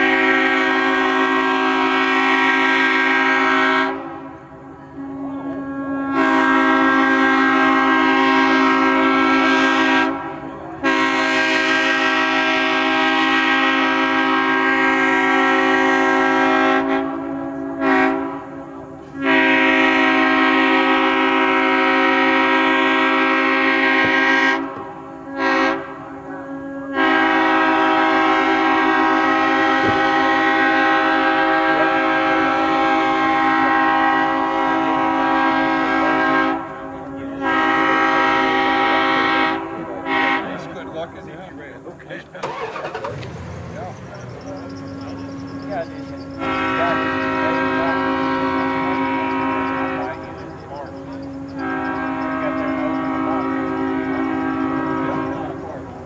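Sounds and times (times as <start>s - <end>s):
short horn toots: 0.0s - 4.3s, 5.0s - 40.7s, 42.4s - 56.0s
locomotive air horn blasts: 0.0s - 41.2s, 42.4s - 56.0s.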